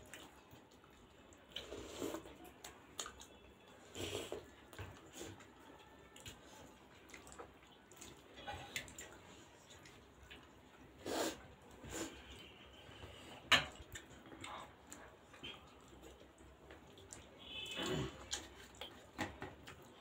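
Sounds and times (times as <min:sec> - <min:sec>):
wet chewing and lip-smacking: 0:00.0 - 0:13.0, 0:13.7 - 0:20.0.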